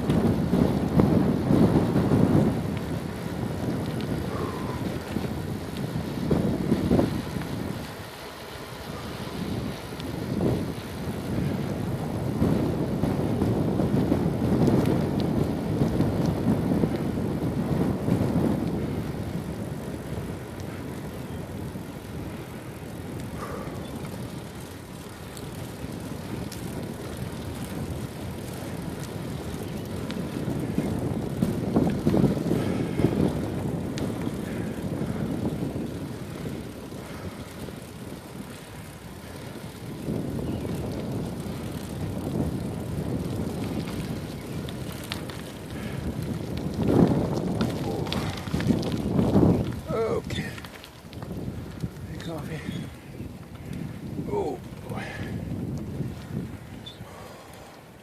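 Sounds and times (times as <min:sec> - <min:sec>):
bicycle tyres rolling: 0:00.0 - 0:58.0
wind rumbling on microphone: 0:00.0 - 0:58.0.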